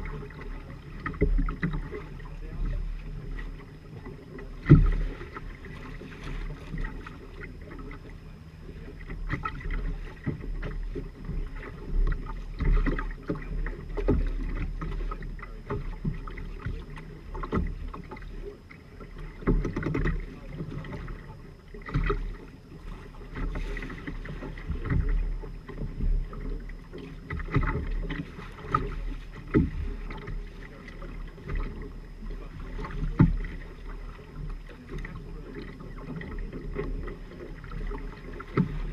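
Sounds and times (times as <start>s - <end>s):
water splashing along boat hull: 0.0s - 38.9s.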